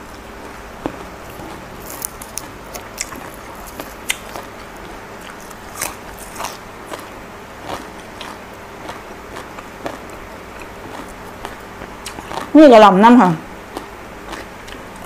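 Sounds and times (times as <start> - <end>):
crisp chewing crunches: 0.8 - 12.5, 13.7 - 15.0.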